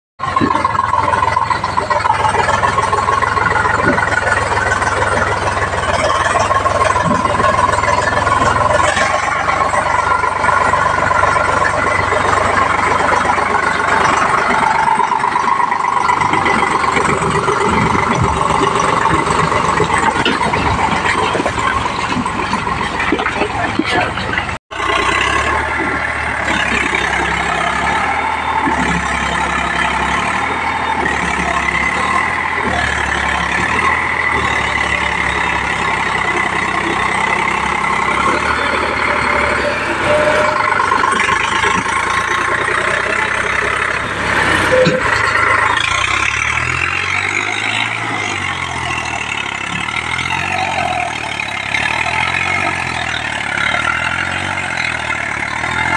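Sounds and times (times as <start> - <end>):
tractor diesel engine under load: 0.2 - 55.9.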